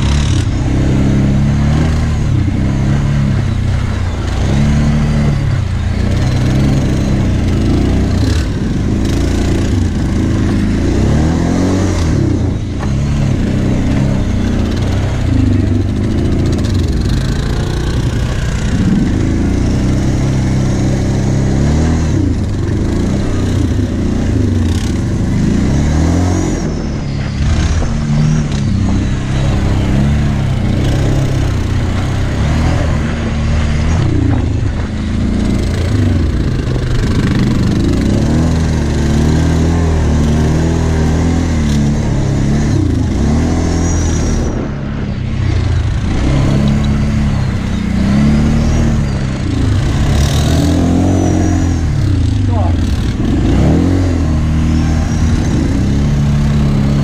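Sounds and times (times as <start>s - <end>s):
quad bike engine revving: 0.0s - 57.0s
second quad bike engine: 0.0s - 57.0s.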